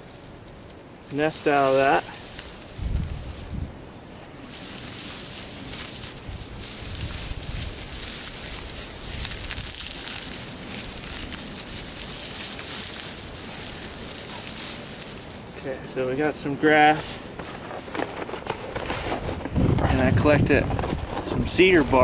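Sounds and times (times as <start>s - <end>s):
dry grass rustling and crackling: 0.0s - 22.0s.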